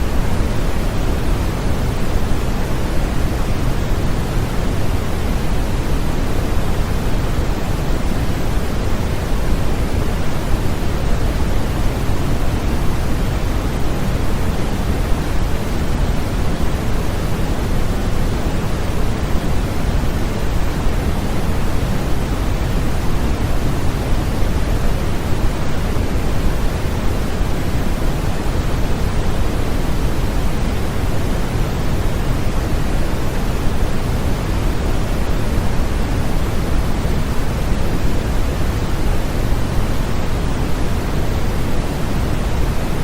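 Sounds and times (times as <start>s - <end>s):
white noise hiss: 0.0s - 43.0s.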